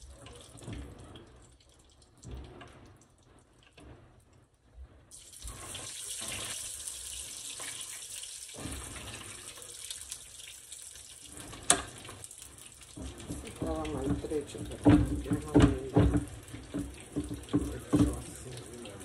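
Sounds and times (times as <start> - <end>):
dough frying in hot oil: 0.0 - 19.0.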